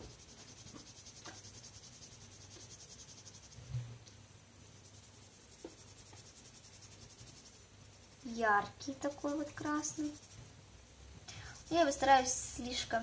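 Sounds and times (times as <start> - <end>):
pencil scratching on paper: 0.0 - 3.8, 4.6 - 10.5, 11.4 - 13.0.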